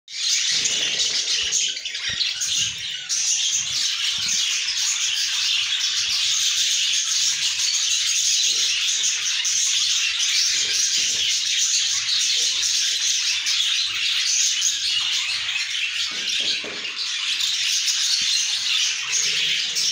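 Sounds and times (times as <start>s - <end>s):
budgerigars chattering: 0.2s - 19.9s.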